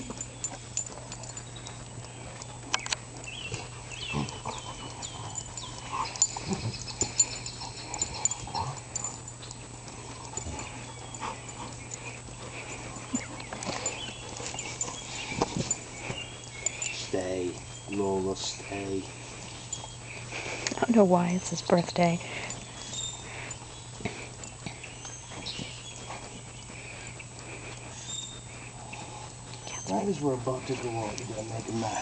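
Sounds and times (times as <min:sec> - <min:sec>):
dogs grunting and growling: 0:00.0 - 0:32.0
dogs scuffling: 0:00.0 - 0:32.0.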